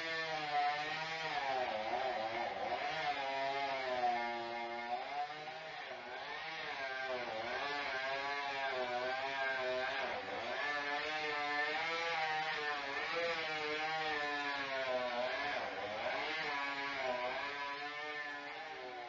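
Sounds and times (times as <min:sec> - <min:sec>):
chainsaw cutting: 0:00.0 - 0:19.0.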